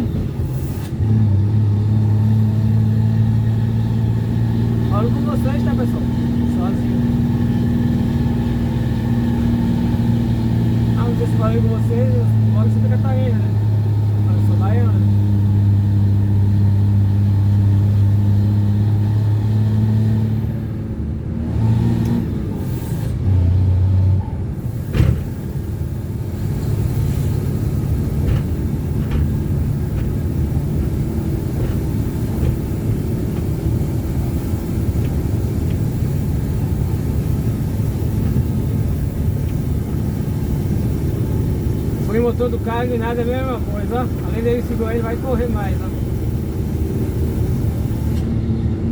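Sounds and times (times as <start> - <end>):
truck diesel engine rumbling: 0.0 - 48.9.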